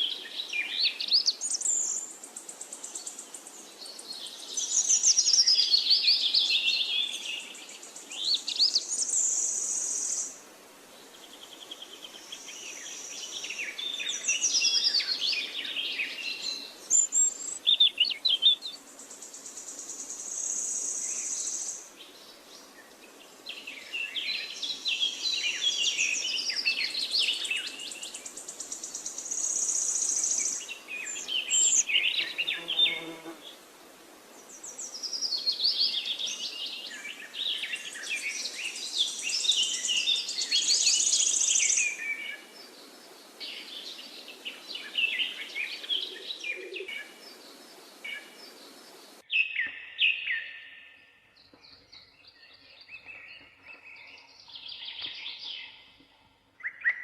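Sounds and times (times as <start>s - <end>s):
songbirds singing and trilling: 0.0s - 33.6s, 34.2s - 57.0s.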